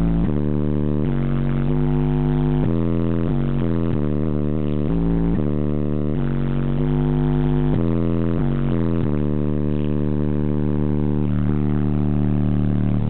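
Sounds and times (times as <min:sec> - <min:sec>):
subwoofers playing deep bass: 0:00.0 - 0:13.0.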